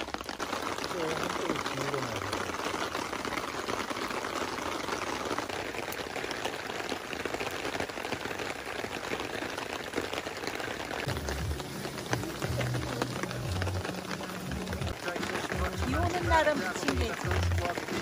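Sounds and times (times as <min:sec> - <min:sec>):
logs crackling in fire: 0:00.0 - 0:18.0
rain pattering: 0:00.0 - 0:18.0.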